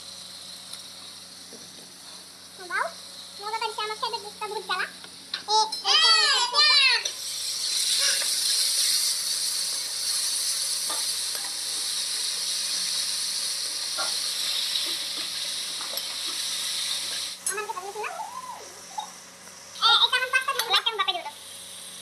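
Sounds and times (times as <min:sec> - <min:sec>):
onions sizzling in a wok: 0:00.0 - 0:22.0.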